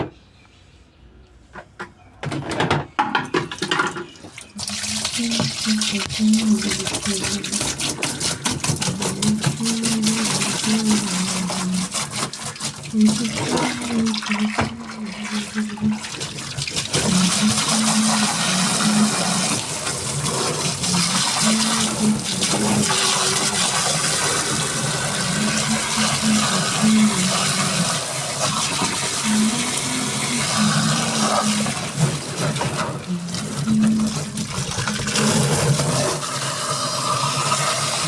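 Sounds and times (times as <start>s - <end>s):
water churning and sloshing: 3.4s - 36.7s
washing machine motor hum: 3.4s - 38.0s.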